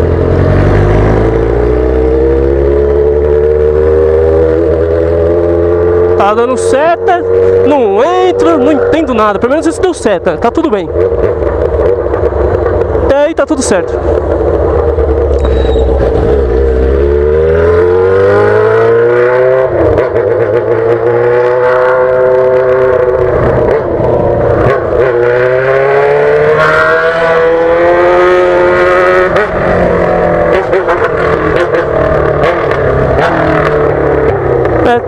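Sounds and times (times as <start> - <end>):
loud motorcycle engine accelerating: 0.0 - 35.0.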